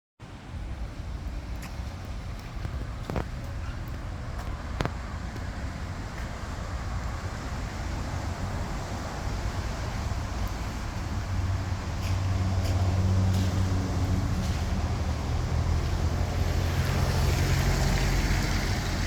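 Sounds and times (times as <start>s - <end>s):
car engines rumbling: 0.3s - 19.0s.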